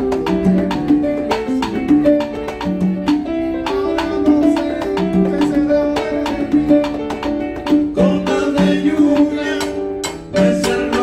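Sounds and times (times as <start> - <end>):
live salsa band playing: 0.0 - 11.0.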